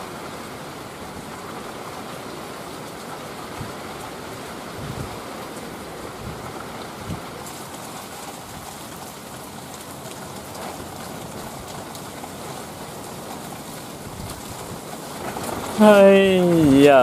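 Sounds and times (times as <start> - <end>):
heavy rain falling: 0.0 - 17.0
water dripping from roof: 0.0 - 17.0.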